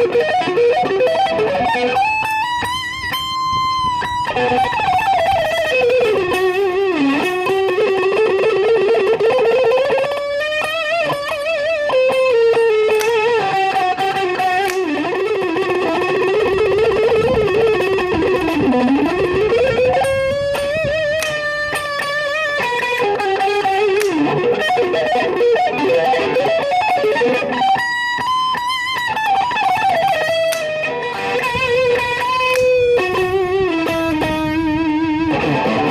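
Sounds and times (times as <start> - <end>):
overdriven electric guitar lead: 0.0 - 35.9.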